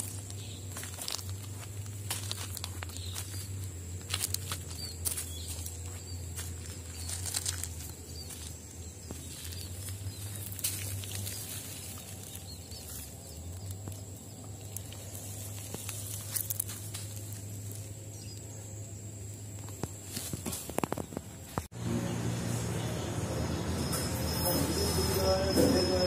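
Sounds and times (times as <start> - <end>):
footsteps crunching on gravel: 0.0 - 18.8, 19.5 - 21.7.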